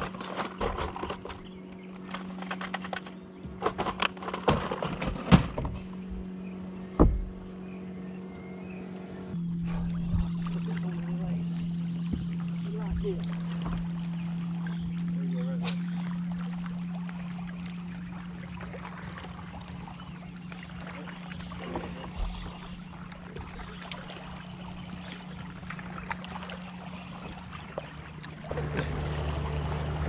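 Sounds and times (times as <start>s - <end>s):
electric trolling motor humming: 0.0s - 30.0s
water lapping at hull: 0.0s - 30.0s.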